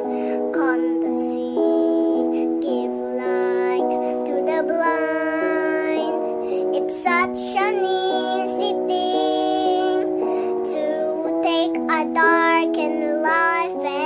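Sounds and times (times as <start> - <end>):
girl singing: 0.0 - 14.0.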